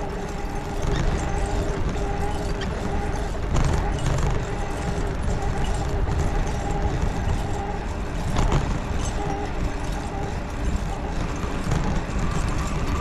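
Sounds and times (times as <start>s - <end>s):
bicycle tyre rolling: 0.0s - 13.0s.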